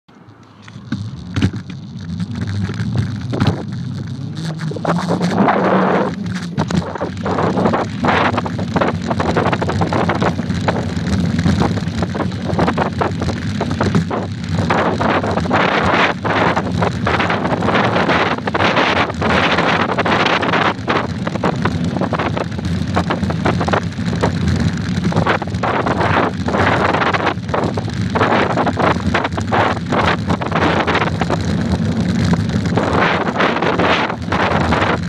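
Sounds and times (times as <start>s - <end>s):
bike tyres rumbling on dirt: 0.6s - 35.0s
wind buffeting microphone: 0.6s - 35.0s.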